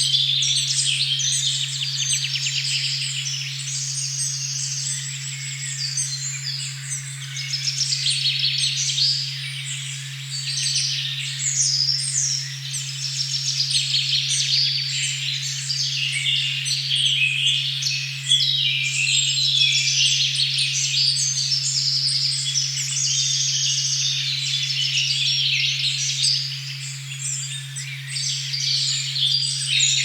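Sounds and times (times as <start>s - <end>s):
birds singing: 0.0s - 30.0s.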